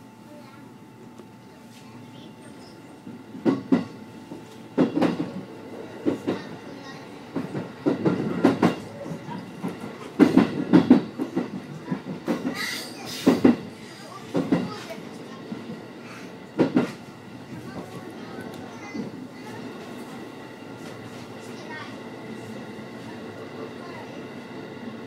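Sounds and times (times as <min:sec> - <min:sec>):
train running hum: 0:00.0 - 0:25.0
train wheels clattering over rails: 0:03.0 - 0:25.0.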